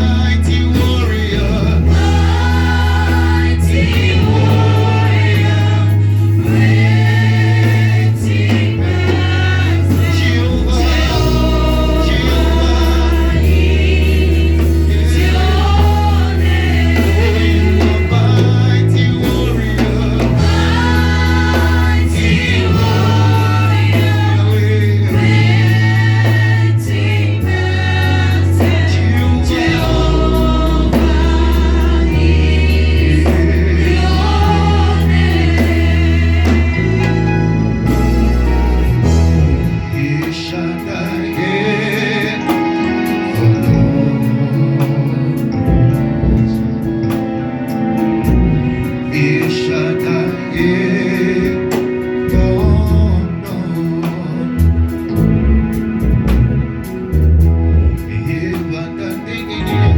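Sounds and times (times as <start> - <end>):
band playing: 0.0 - 59.9
group singing gospel song: 0.0 - 59.9
loud bass line: 0.0 - 59.9.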